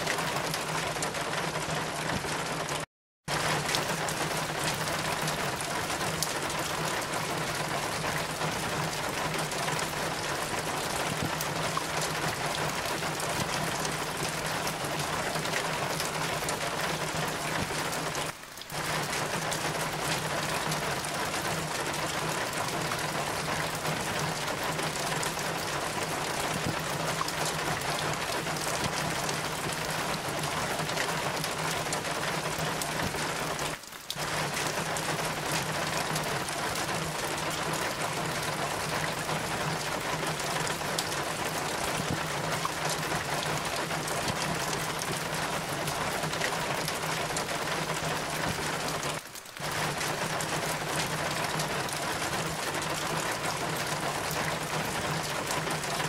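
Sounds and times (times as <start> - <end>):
steady rain: 0.0 - 56.0
water running off roof and dripping: 0.0 - 56.0.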